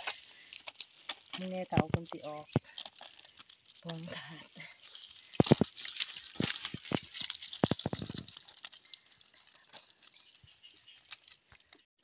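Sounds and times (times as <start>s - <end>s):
fish flapping in a net: 0.0s - 11.9s.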